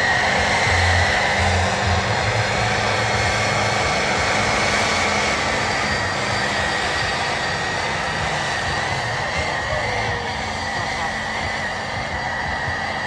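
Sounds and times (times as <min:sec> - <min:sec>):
high whine: 0:00.0 - 0:13.0
pickup engine at full throttle: 0:00.0 - 0:13.0
tires spinning on pavement: 0:00.0 - 0:13.0.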